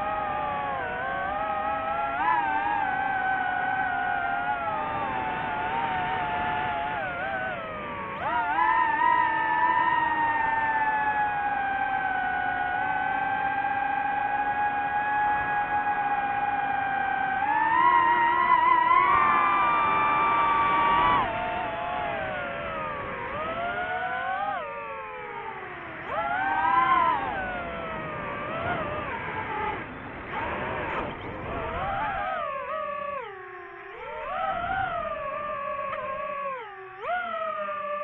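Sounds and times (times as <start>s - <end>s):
drone motors whining: 0.0s - 38.0s.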